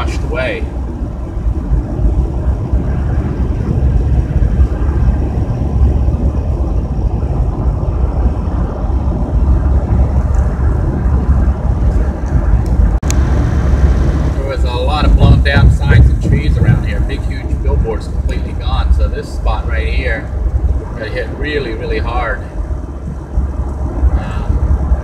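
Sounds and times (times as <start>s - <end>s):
van road and engine rumble: 0.0s - 25.0s.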